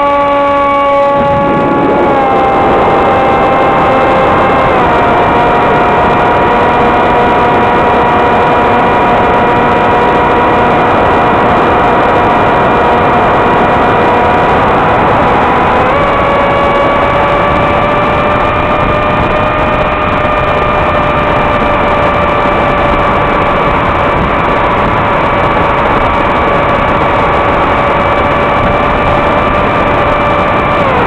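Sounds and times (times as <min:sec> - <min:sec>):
electric motor and propeller whine: 0:00.0 - 0:31.0.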